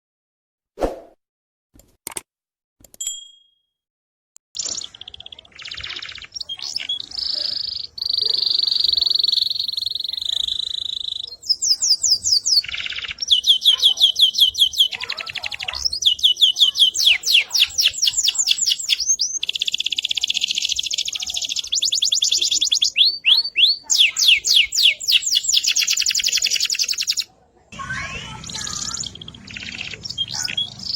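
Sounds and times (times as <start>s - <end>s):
canary singing trills: 4.6s - 30.9s.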